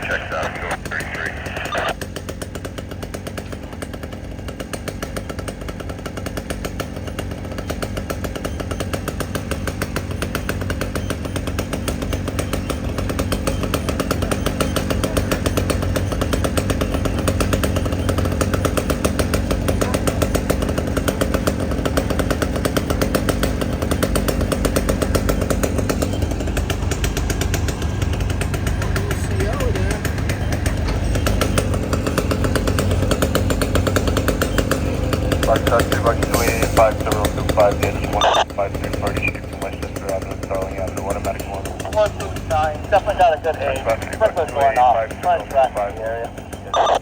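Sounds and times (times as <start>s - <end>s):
motor engine running: 0.0s - 47.0s.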